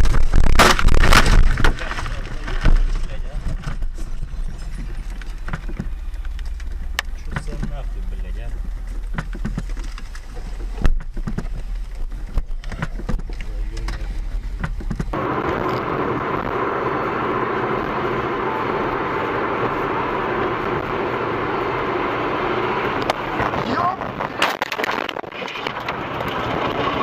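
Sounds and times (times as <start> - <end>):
car engine and road rumble: 0.0 - 27.0
road noise hiss: 2.1 - 26.9.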